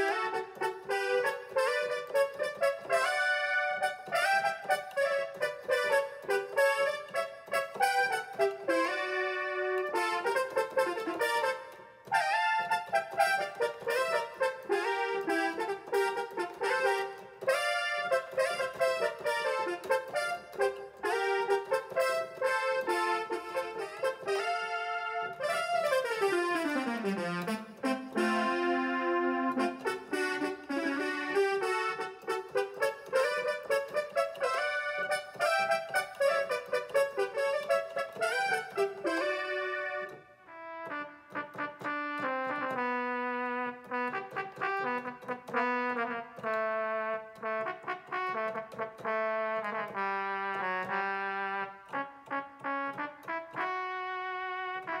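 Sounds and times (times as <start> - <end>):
synthesizer brass notes: 0.0 - 55.0.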